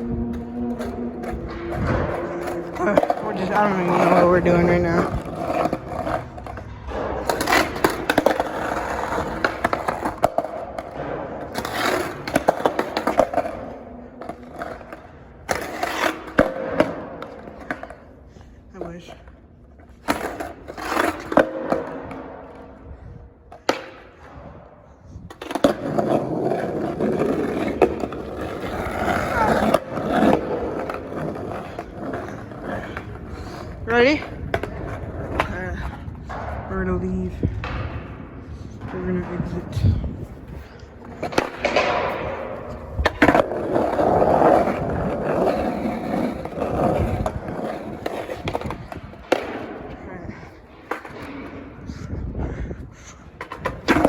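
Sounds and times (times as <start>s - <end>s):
skateboard clack: 0.0s - 52.4s, 53.0s - 54.0s
skateboard wheels rolling on concrete: 0.0s - 54.0s.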